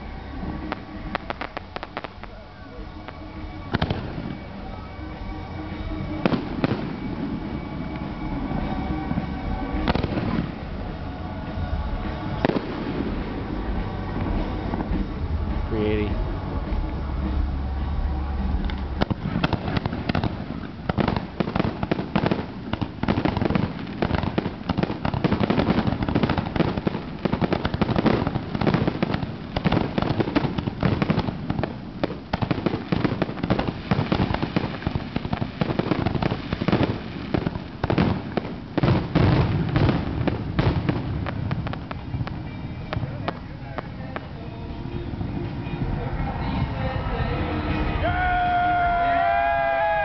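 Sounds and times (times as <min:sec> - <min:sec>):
fireworks launching and bursting: 0:00.0 - 0:48.0.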